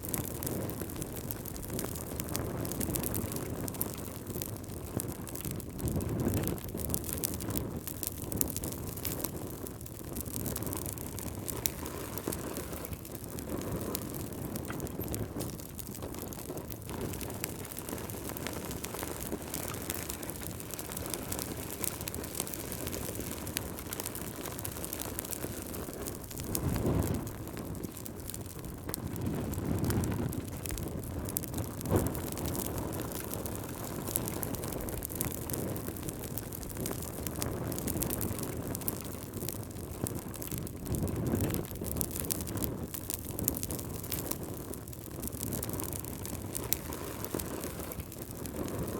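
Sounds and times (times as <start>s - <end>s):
log fire crackling and popping: 0.0s - 48.9s.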